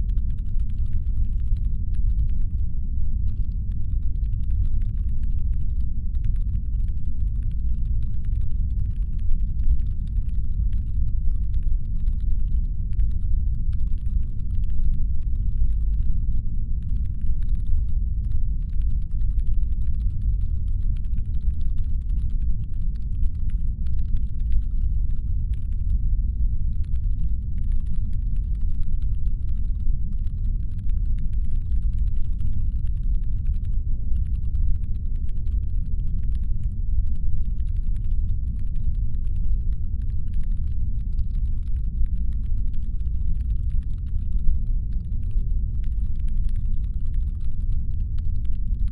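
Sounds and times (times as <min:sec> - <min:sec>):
deep engine hum rumble: 0:00.0 - 0:48.9
faint ticking crackle: 0:00.0 - 0:48.9.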